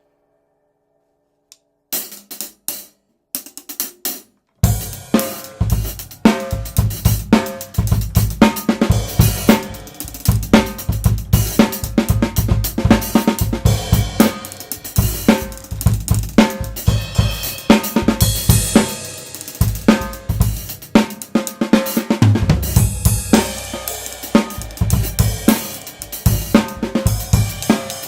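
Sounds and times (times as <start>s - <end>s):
drum kit groove: 2.0s - 28.0s
cymbal crash: 4.6s - 28.0s.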